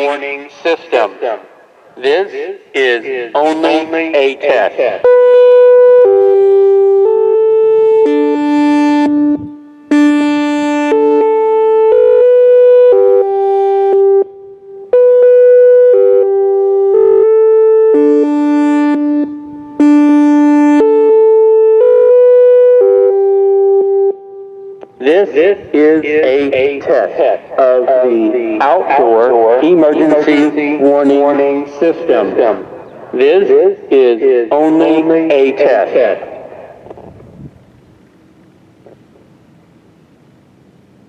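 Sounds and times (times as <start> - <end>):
siren loudspeaker chime tones: 2.3 - 36.8.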